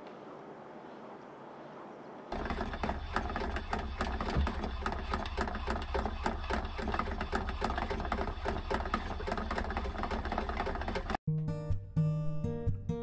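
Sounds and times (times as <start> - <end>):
low mechanical hum: 0.0 - 11.2.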